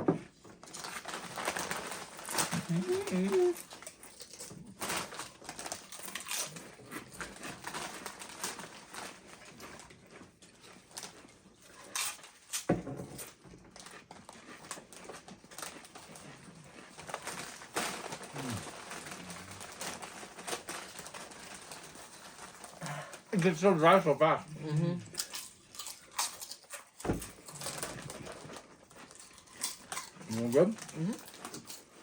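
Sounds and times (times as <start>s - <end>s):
crunching and chewing chips: 0.2s - 32.0s.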